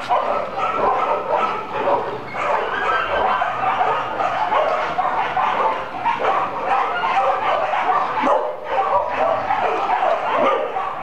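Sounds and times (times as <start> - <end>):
many dogs barking: 0.0 - 11.0.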